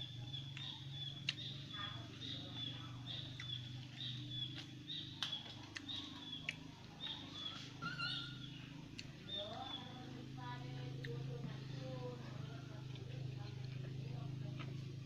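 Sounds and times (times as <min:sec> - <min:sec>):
bird chirping: 0:00.0 - 0:13.0
steady low hum: 0:00.0 - 0:15.0.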